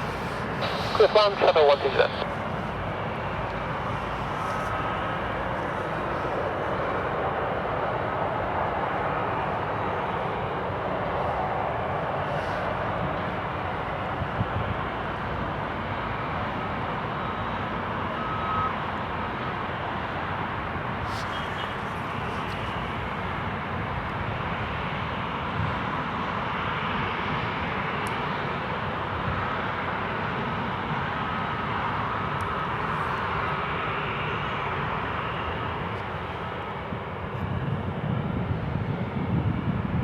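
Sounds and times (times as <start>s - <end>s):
jet engines rushing: 0.0s - 40.0s.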